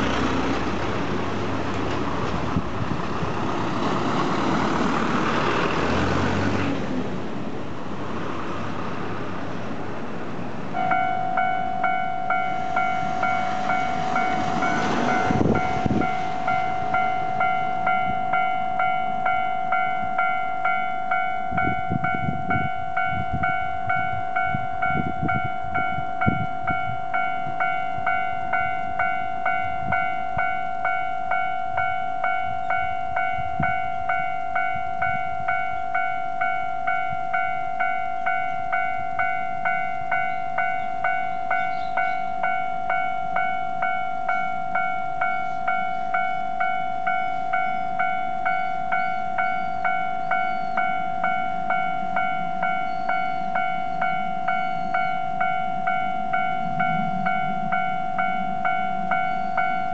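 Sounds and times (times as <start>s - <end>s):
car driving across tracks: 0.0s - 59.9s
level crossing bell dinging: 10.8s - 59.9s.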